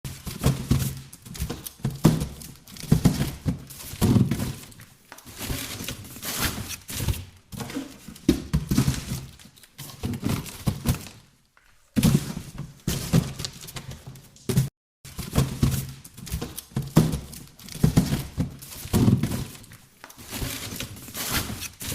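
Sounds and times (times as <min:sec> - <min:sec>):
boxes thudding and knocking: 0:00.1 - 0:11.3, 0:11.9 - 0:21.9
rustling and scraping: 0:00.1 - 0:21.9.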